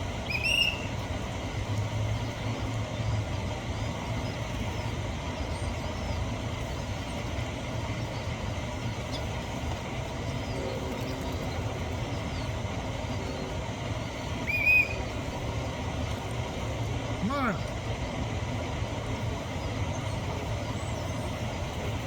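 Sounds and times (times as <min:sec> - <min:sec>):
outdoor rumble: 0:00.0 - 0:22.0.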